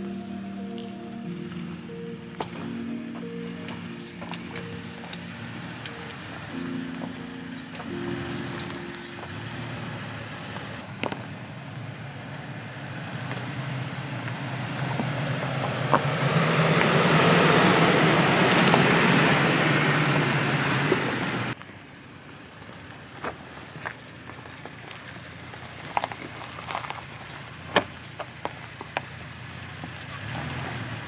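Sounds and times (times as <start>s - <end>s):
low engine hum: 0.0s - 31.0s
tyres on gravel: 0.0s - 31.0s.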